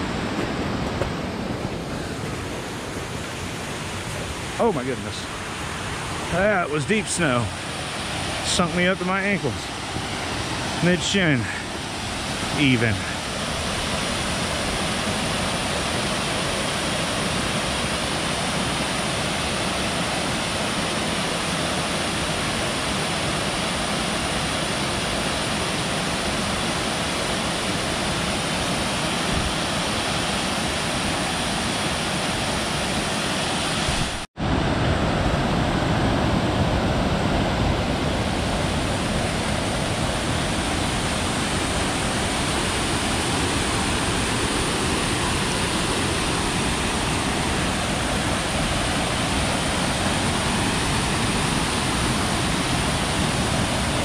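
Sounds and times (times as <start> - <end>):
cascading creek rushing: 0.0 - 54.0
waterfall roaring over rocks: 0.0 - 54.0.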